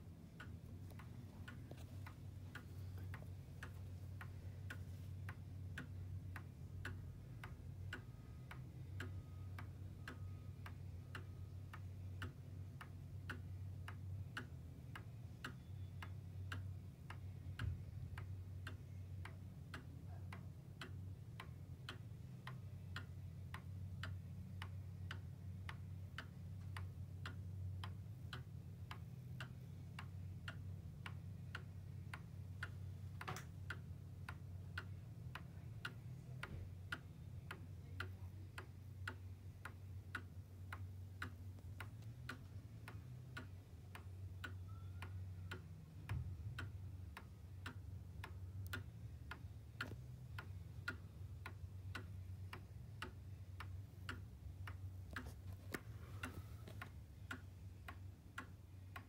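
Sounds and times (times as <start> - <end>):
cuckoo clock ticking: 0.1 - 59.0.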